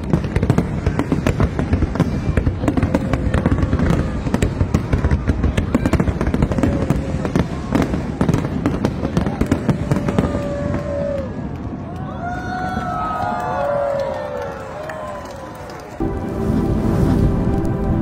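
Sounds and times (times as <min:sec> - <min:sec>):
fireworks bangs and crackles: 0:00.0 - 0:14.1, 0:14.7 - 0:18.0.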